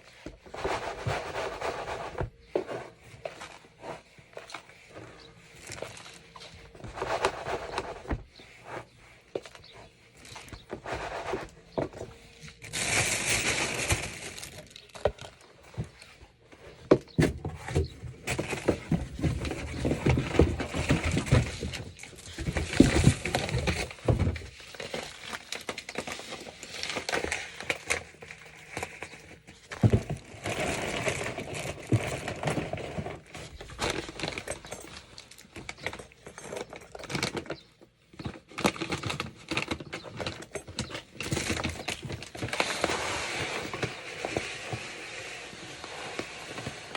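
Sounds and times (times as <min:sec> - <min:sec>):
cat litter scraping and rustling: 0:00.0 - 0:46.9.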